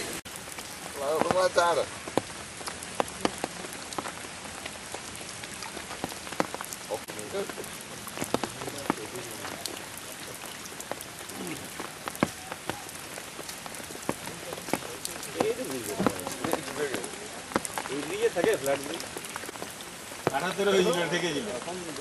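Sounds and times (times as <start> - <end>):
raindrops ticking close by: 0.0 - 22.0
steady rain falling: 0.0 - 22.0.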